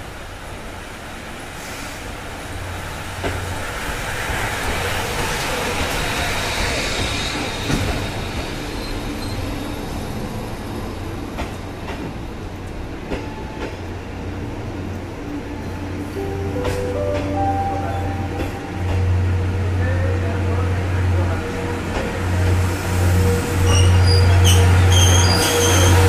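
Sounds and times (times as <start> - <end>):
train running past: 0.1 - 26.0.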